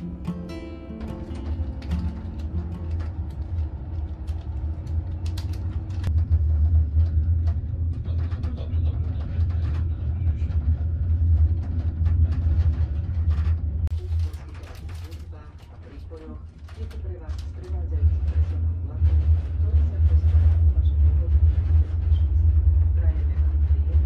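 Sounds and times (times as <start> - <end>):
train rumble inside carriage: 0.0 - 24.0.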